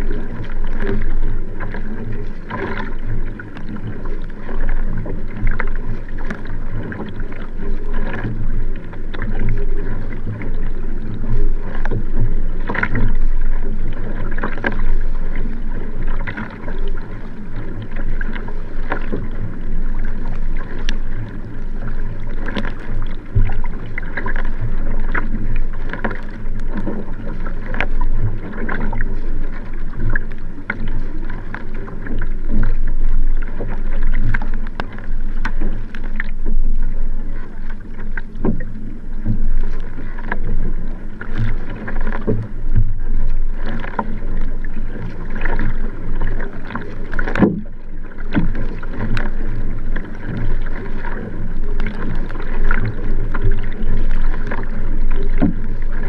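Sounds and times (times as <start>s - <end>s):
paddle blades splashing: 0.0s - 56.0s
water rushing along hull: 0.0s - 56.0s.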